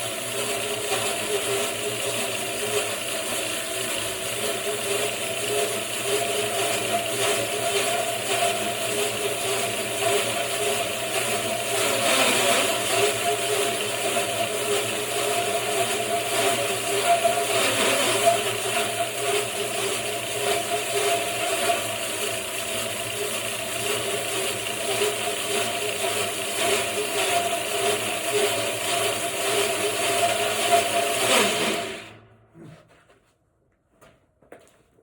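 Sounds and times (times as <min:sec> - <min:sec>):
bandsaw mill running: 0:00.0 - 0:32.4.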